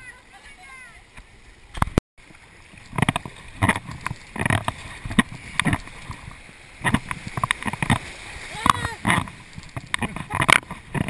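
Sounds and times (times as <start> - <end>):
paddle strokes splashing water: 0.0 - 11.0.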